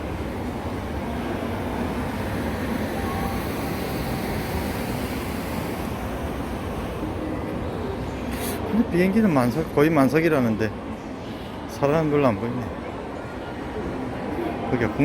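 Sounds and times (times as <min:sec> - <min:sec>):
airport terminal rumble: 0:00.0 - 0:15.0.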